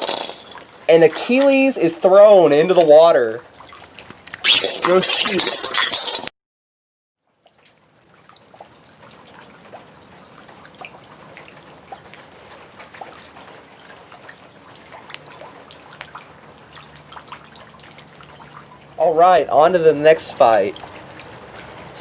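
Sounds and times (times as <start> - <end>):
light rain hiss: 0.0 - 6.2, 7.3 - 22.0
rain dripping and pattering: 0.0 - 6.2, 7.2 - 22.0.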